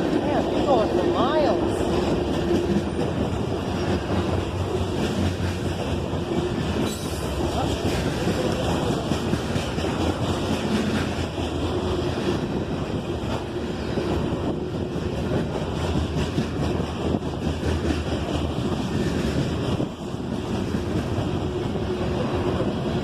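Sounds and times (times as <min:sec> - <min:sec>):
freight train rumbling past: 0:00.0 - 0:23.0
wind buffeting microphone: 0:00.0 - 0:23.0.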